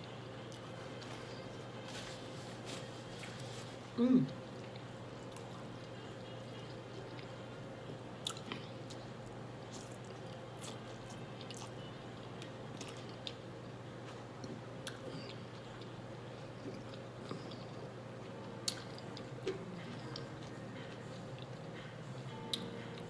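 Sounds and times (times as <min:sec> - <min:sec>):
steady low hum: 0:00.0 - 0:23.0
person chewing food: 0:00.5 - 0:07.5, 0:08.2 - 0:13.4, 0:14.0 - 0:23.0.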